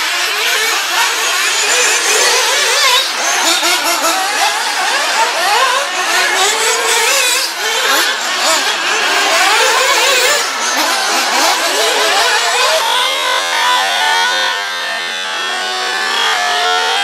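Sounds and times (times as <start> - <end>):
rc car motors whining: 0.0 - 17.0.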